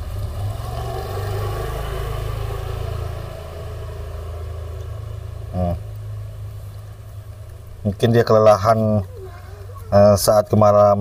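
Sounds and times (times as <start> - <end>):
low motor rumble: 0.0 - 11.0.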